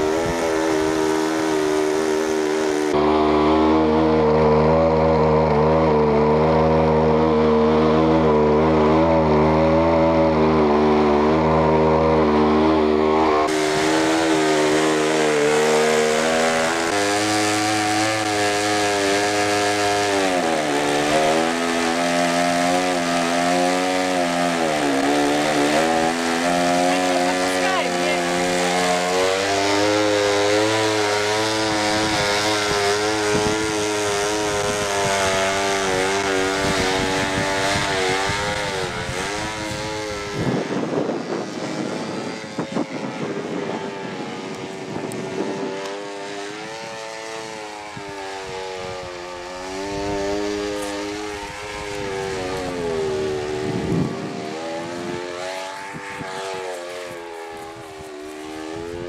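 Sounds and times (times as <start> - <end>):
model airplane engine: 0.0 - 59.0.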